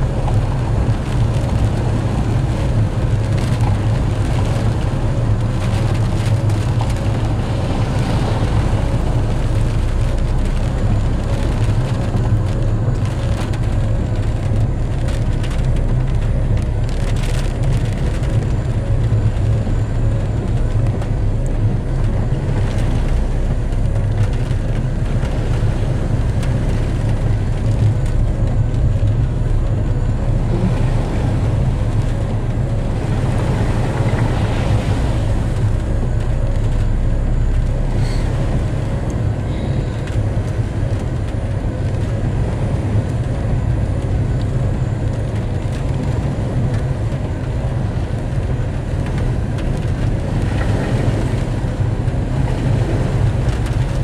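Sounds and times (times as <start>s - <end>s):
tyres on a wet road: 0.0s - 54.0s
vehicle engine running: 0.0s - 54.0s.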